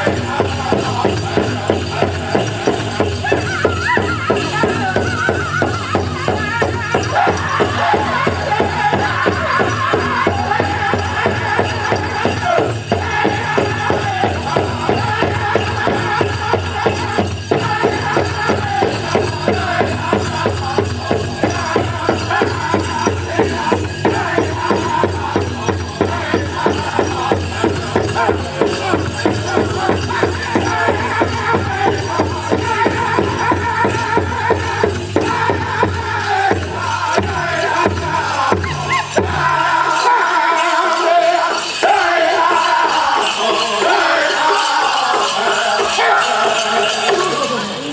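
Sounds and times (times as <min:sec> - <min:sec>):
bells jingling: 0:00.0 - 0:47.9
drum group singing: 0:00.0 - 0:47.9
fast big drum beat: 0:00.0 - 0:47.9.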